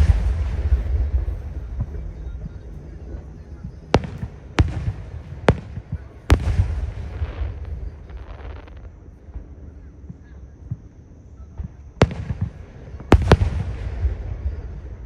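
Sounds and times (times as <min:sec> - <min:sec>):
fireworks bursting with bangs: 0:00.0 - 0:15.0.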